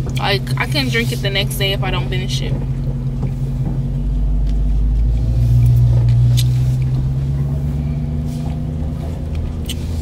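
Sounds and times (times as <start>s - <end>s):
car engine hum: 0.0s - 10.0s.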